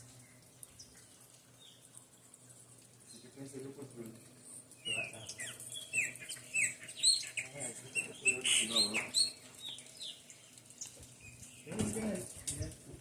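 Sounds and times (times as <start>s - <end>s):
birds chirping: 0.0s - 12.8s.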